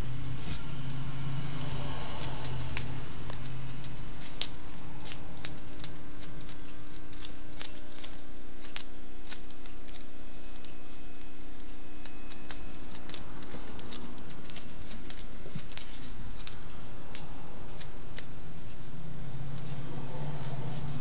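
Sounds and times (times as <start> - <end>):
steady low hum: 0.0 - 21.0
scissors snipping hair: 1.6 - 18.8.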